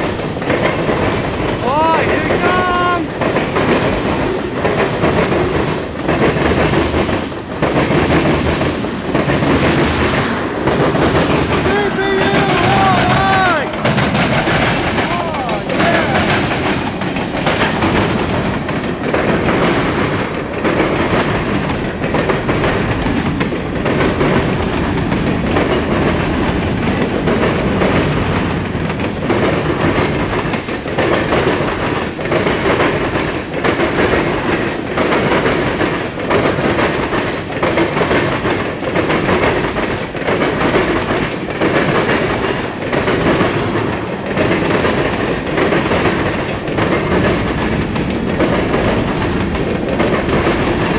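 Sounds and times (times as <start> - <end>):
freight train rumbling: 0.0 - 50.9
steel wheels clacking on rails: 0.0 - 50.9.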